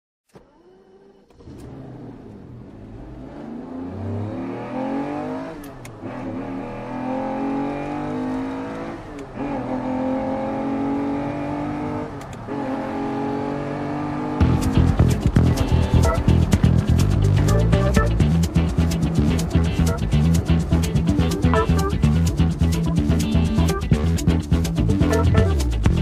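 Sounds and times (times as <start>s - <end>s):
engine accelerating through gears: 0.3s - 26.0s.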